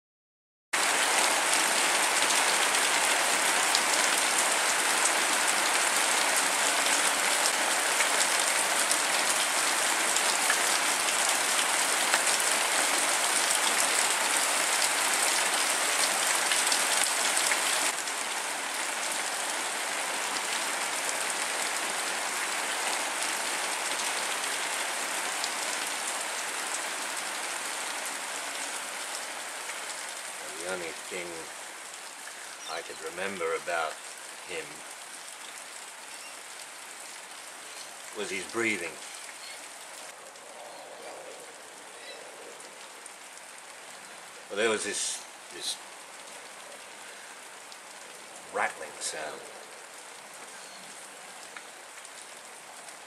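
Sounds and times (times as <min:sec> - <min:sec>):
steady rain hiss: 0:00.8 - 0:53.0.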